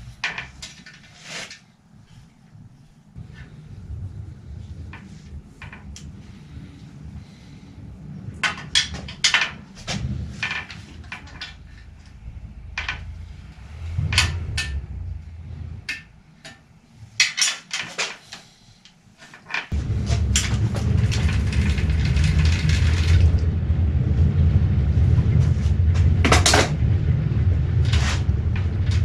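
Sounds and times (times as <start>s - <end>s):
low rumble with hiss: 0.0s - 29.0s.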